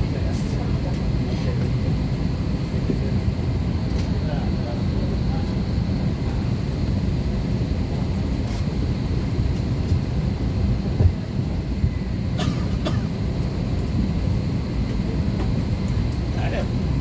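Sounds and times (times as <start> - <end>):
airplane cabin rumble and hum: 0.0 - 17.0
faint high whine of air systems: 0.0 - 17.0.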